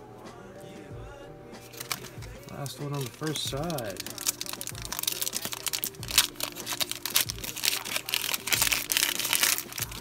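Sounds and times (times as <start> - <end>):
background music with slow beat: 0.0 - 10.0
foil card pack crinkling and tearing: 1.6 - 10.0.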